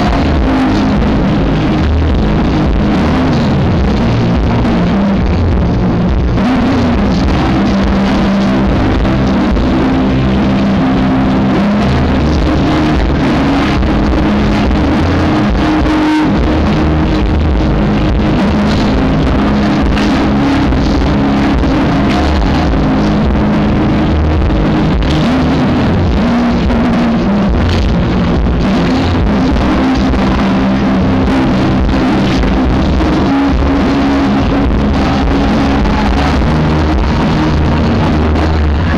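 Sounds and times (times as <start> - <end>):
distorted live rock music: 0.0 - 38.9.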